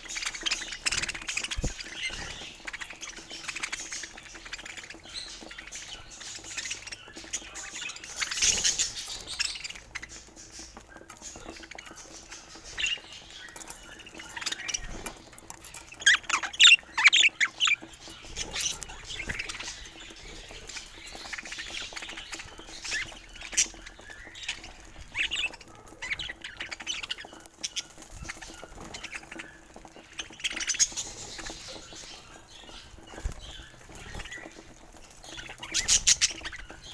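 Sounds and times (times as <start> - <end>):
budgerigars chirping: 0.0 - 36.9.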